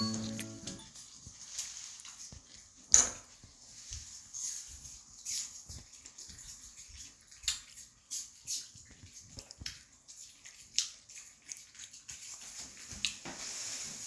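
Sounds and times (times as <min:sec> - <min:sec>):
dog eating with soft clicks: 0:00.2 - 0:13.2.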